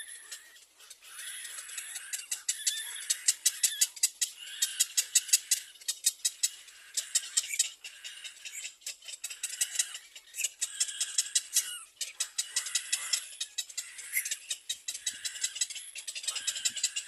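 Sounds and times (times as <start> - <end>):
young birds peeping: 0.0 - 17.0.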